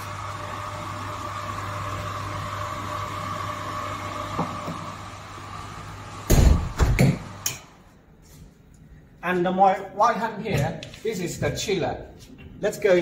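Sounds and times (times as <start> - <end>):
refrigeration equipment humming: 0.0 - 12.7.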